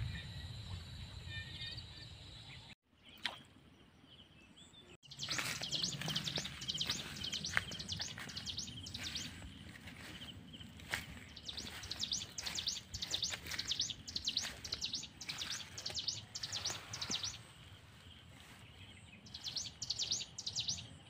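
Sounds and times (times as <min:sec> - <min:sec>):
birds chirping: 0:00.0 - 0:21.0
faint outdoor background noise: 0:00.0 - 0:21.0.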